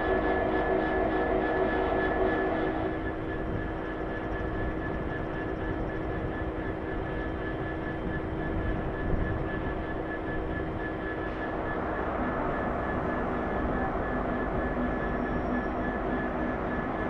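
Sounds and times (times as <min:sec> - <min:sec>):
diesel locomotive idling: 0:00.0 - 0:17.0
thin constant whine: 0:00.0 - 0:17.0.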